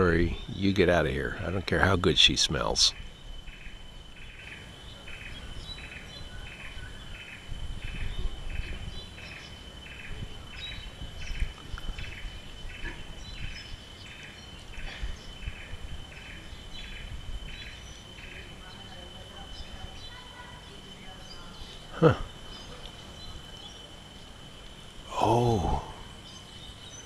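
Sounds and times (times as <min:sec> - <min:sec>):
continuous high-pitched whine: 0:00.0 - 0:27.0
faint bird chirps: 0:00.0 - 0:27.0
insect chirping call: 0:00.0 - 0:27.0.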